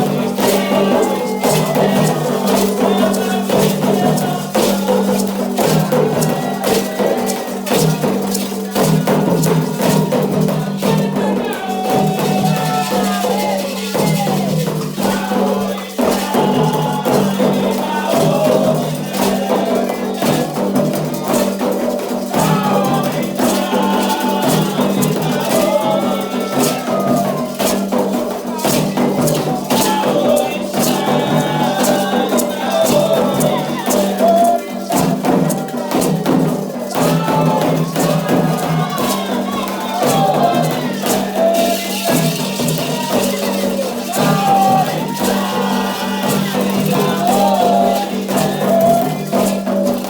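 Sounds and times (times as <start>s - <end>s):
hand percussion with rattles: 0.0s - 50.0s
voices singing a chant: 0.0s - 50.0s.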